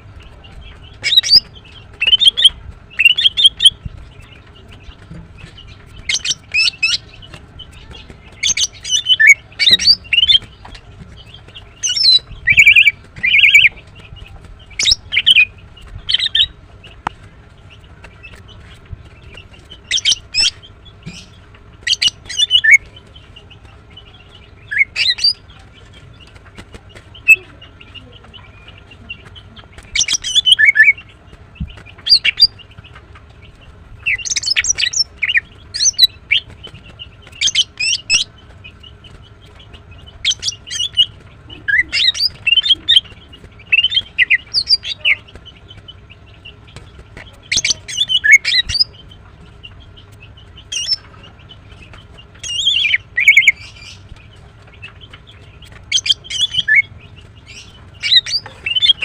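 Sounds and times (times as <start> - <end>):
bird chirping in sharp clusters: 0.0 - 59.0.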